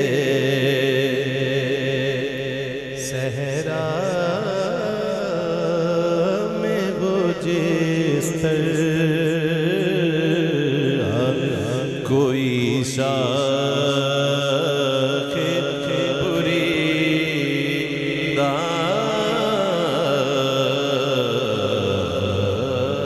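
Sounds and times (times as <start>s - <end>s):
man singing into a microphone: 0.0s - 23.0s.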